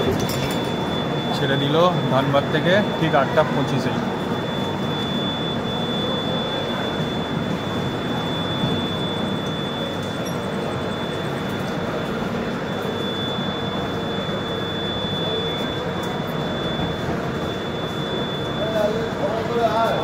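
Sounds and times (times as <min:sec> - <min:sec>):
high steady whine: 0:00.0 - 0:20.0.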